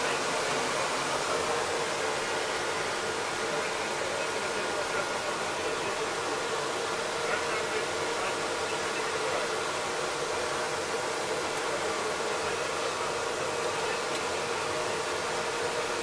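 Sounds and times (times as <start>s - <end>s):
helicopter engines and rotor: 0.0s - 16.0s.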